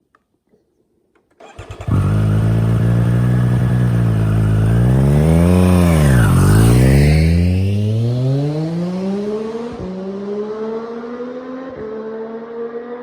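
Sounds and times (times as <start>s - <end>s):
motorcycle engine riding by: 1.4s - 12.9s.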